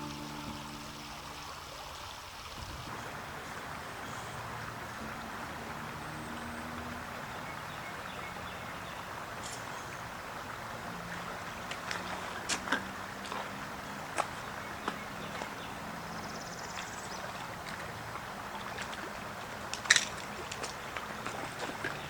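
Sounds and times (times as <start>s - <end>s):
stream water running: 0.0s - 22.0s.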